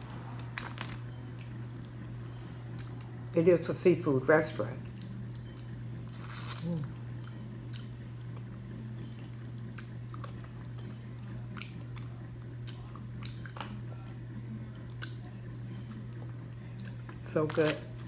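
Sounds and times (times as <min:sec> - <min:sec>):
steady low hum: 0:00.0 - 0:18.0
person chewing oysters: 0:00.2 - 0:03.3, 0:04.8 - 0:18.0.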